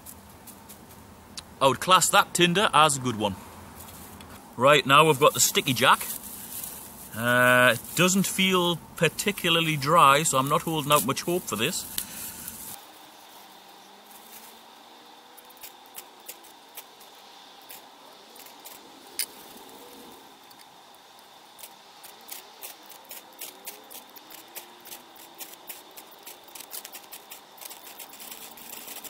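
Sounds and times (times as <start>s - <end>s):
dry tinder crackling and rustling: 0.0s - 1.4s, 3.0s - 29.0s.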